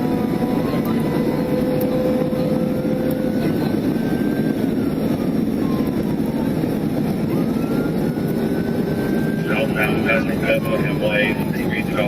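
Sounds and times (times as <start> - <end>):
faint siren wailing: 0.0 - 12.0
road and engine roar: 0.0 - 12.0.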